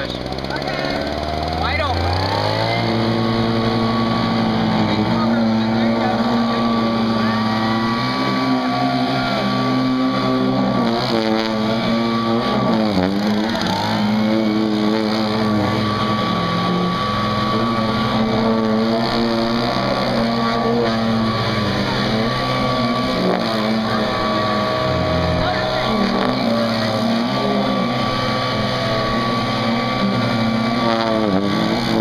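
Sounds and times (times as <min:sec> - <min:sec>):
leaf blower engine running: 0:00.0 - 0:32.0.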